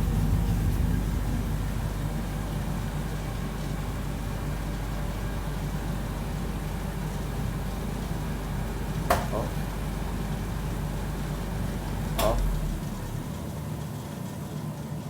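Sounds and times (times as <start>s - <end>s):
machine blower and pumps humming: 0.0s - 15.0s.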